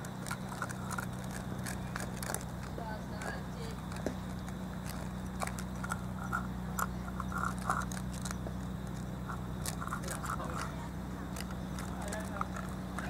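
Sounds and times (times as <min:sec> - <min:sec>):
cats chewing food: 0:00.0 - 0:13.0
crunching clicks: 0:00.0 - 0:13.0
steady low hum: 0:00.0 - 0:13.0.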